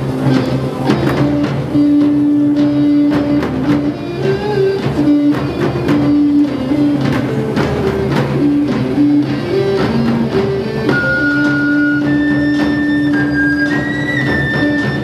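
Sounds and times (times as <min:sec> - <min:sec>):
drum hits: 0:00.0 - 0:15.0
guitar: 0:00.0 - 0:15.0
melody of long held notes: 0:00.0 - 0:15.0.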